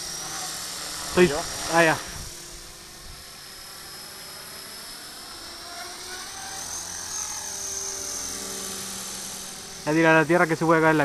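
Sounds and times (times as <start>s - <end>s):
rc helicopter motor whining: 0.0s - 11.0s.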